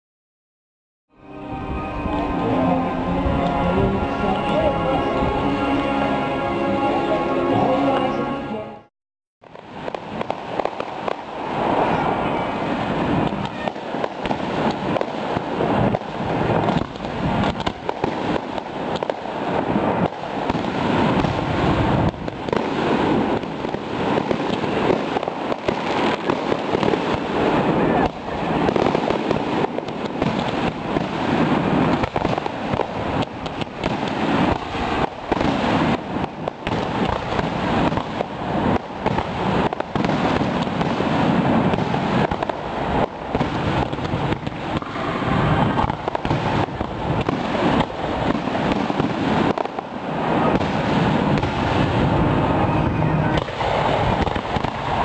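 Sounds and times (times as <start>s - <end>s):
fireworks bangs: 9.4s - 55.0s.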